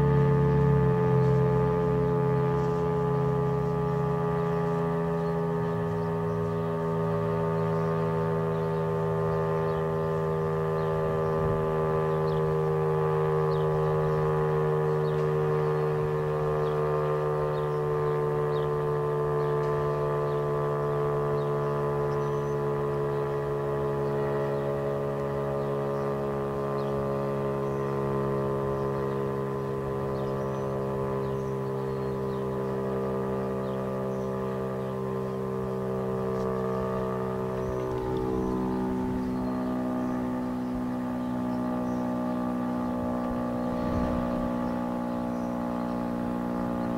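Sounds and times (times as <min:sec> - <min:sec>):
warning siren wailing: 0:00.0 - 0:46.9.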